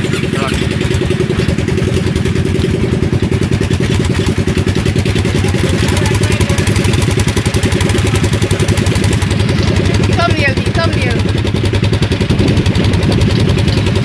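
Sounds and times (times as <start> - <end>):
buggy engine idling: 0.0 - 14.0.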